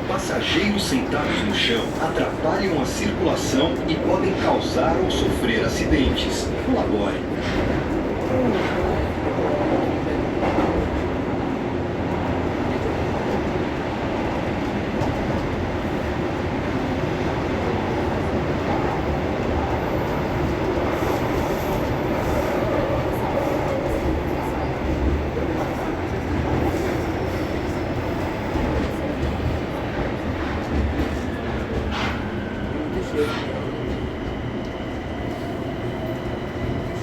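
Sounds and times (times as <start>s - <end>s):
subway train wheels rumbling: 0.0s - 37.0s.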